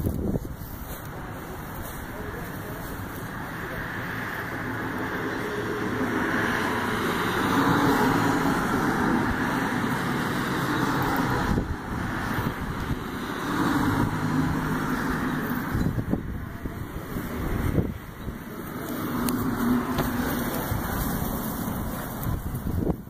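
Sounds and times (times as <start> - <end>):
road traffic rushing: 0.0 - 23.0.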